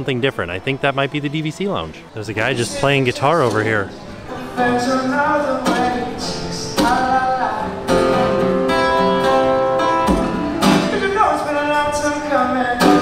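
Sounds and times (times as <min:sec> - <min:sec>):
acoustic guitar strumming: 0:00.0 - 0:13.0
man singing: 0:00.3 - 0:09.1, 0:10.8 - 0:13.0.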